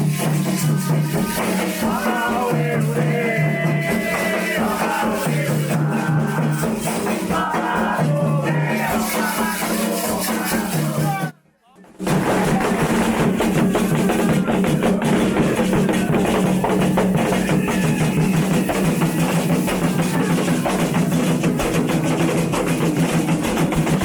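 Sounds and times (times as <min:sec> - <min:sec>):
music with dense drumming: 0:00.0 - 0:11.3, 0:11.9 - 0:24.0.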